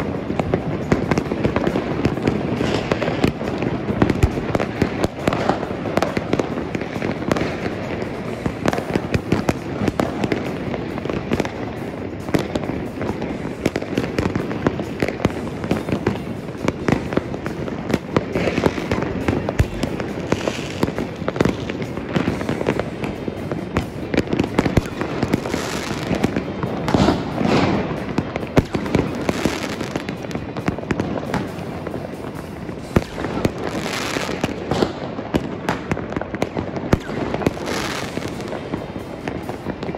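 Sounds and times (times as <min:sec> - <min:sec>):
fireworks banging and crackling: 0:00.0 - 0:39.9
hissing crackling firework bursts: 0:00.0 - 0:39.9.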